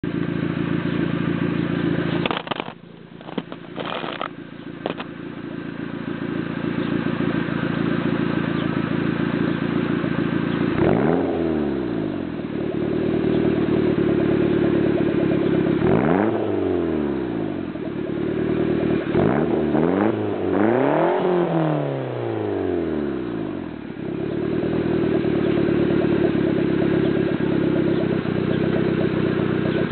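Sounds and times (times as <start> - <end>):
car engine revving: 0.1 - 29.9.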